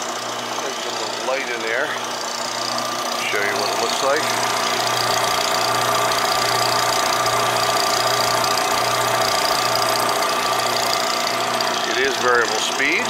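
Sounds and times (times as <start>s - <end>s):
mixer motor hum: 0.0s - 13.0s.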